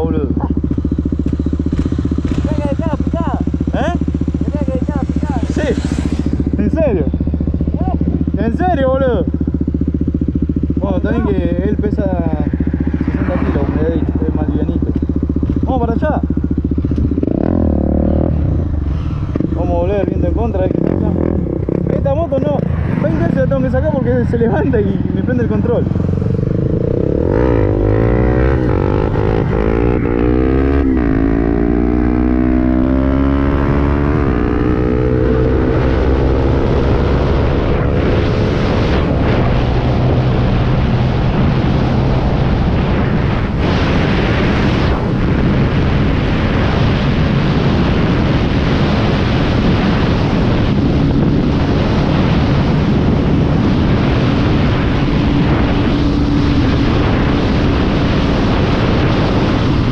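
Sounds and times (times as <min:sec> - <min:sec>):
motorcycle engine at full throttle: 0:00.0 - 0:59.9
wind rushing on microphone: 0:00.0 - 0:59.9.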